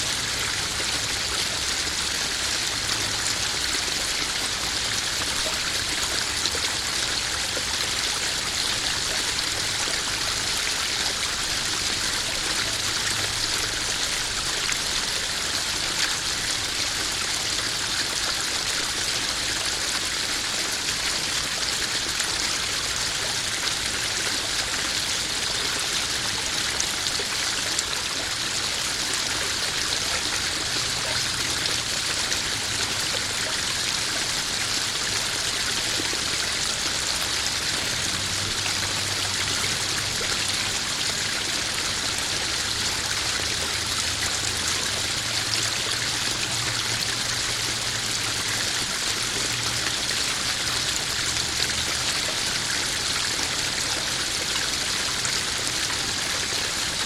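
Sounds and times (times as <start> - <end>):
waterfall pouring into pond: 0.0 - 57.0.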